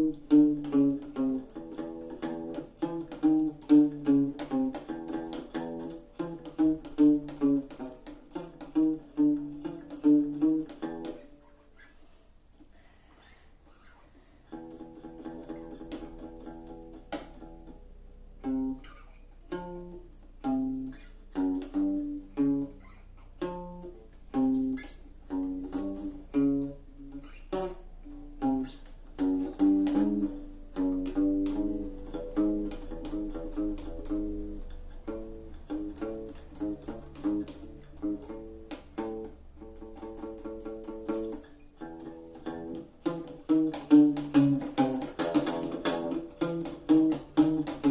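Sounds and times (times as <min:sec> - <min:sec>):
acoustic guitar notes plucked: 0:00.0 - 0:12.0, 0:12.9 - 0:47.9.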